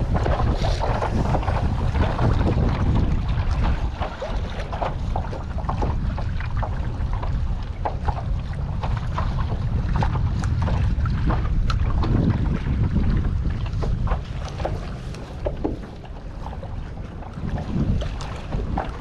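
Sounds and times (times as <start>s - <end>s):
waves slapping kayak hull: 0.0s - 19.0s
wind buffeting microphone: 0.0s - 19.0s.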